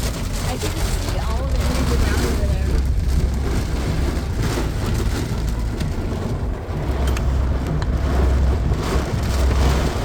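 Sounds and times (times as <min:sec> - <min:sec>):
car engine and road rumble: 0:00.0 - 0:10.0
heavy rain on a car: 0:00.0 - 0:10.0.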